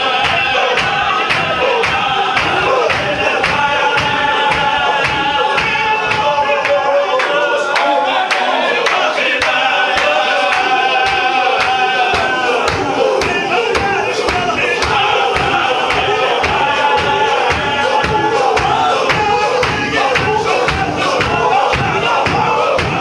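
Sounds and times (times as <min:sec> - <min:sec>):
men chanting in unison: 0:00.0 - 0:23.0
sharp steady beat: 0:00.0 - 0:23.0.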